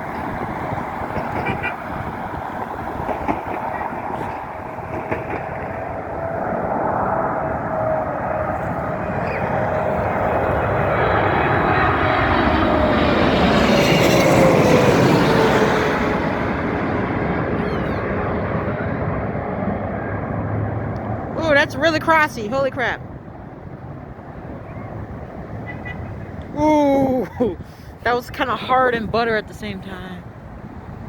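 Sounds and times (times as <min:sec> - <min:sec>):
jet engine whine: 0:00.0 - 0:26.6
jet airliner engine noise: 0:00.0 - 0:31.0.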